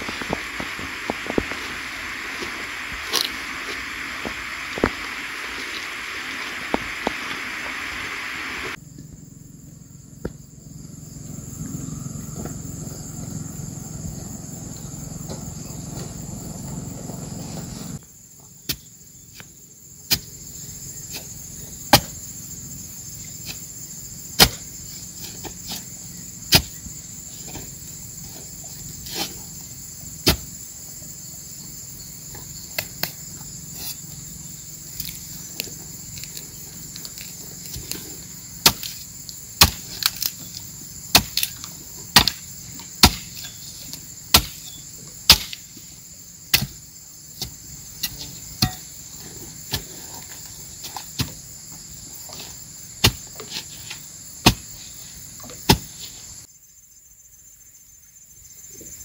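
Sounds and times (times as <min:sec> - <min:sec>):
insect chorus: 0:00.0 - 0:59.0.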